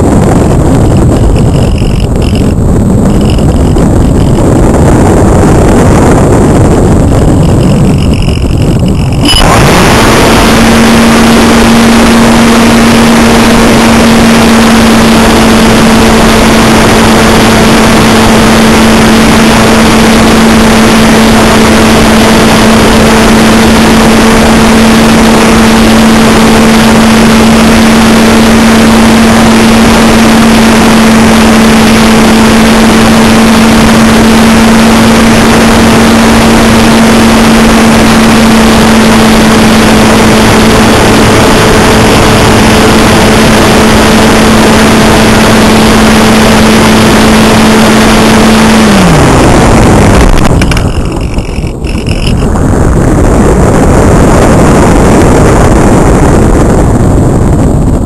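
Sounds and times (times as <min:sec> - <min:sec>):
electric motor and propeller droning: 0:00.0 - 0:58.0
wind rushing over microphone: 0:00.0 - 0:58.0.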